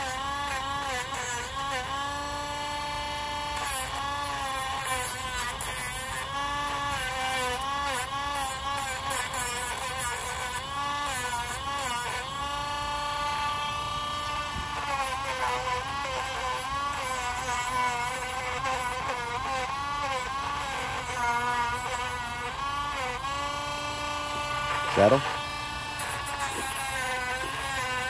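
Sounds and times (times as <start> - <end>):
rotary tool grinding nail: 0.0 - 28.0.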